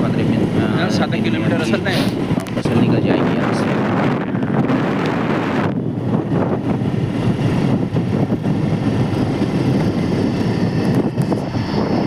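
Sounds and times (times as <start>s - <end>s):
vehicle road and engine rumble: 0.0s - 12.0s
wind blowing across microphone: 0.0s - 12.0s.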